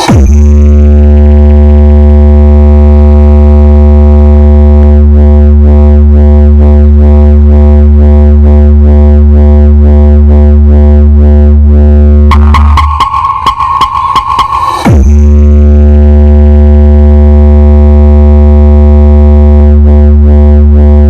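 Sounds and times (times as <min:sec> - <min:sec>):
rhythmic bass wobble: 0:00.0 - 0:17.9
deep synthesizer bass tone: 0:00.0 - 0:21.0.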